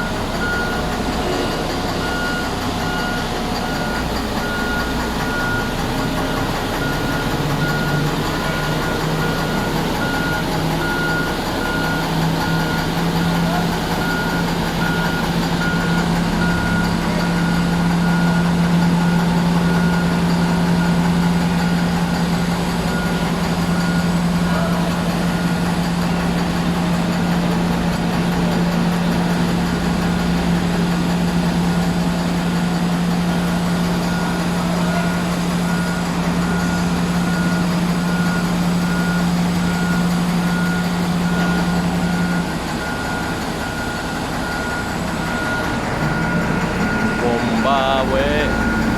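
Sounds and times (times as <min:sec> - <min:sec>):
diesel engine knocking: 0:00.0 - 0:48.9
reversing alarm beeping: 0:00.0 - 0:48.9.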